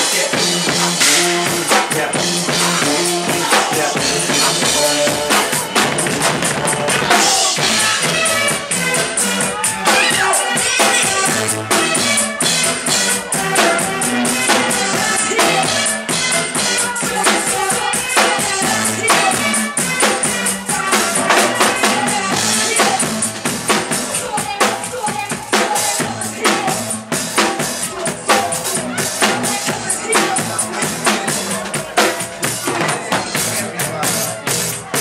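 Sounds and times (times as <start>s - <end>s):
drum kit playing: 0.0s - 35.0s.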